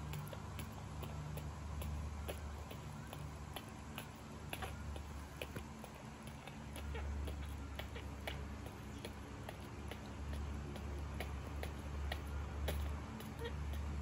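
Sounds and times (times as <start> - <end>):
small clicks and ticks: 0.0 - 14.0
steady low rumble: 0.0 - 14.0.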